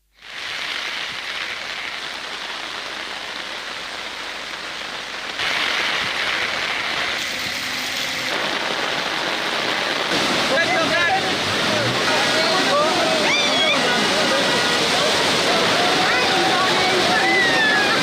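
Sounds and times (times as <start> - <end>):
heavy rain hiss: 0.0 - 18.0.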